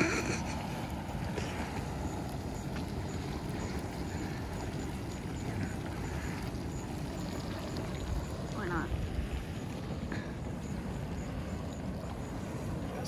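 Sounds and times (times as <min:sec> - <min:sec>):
geyser churning and splashing: 0:00.0 - 0:13.0.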